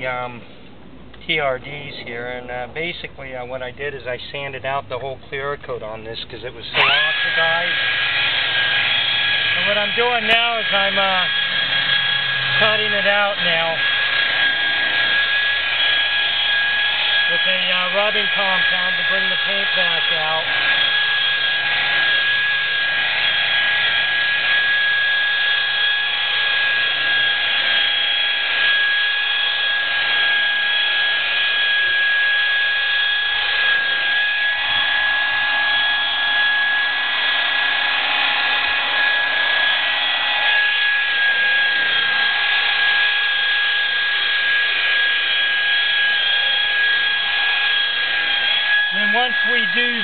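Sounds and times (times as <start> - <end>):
rotary polisher whining: 6.7 - 50.0.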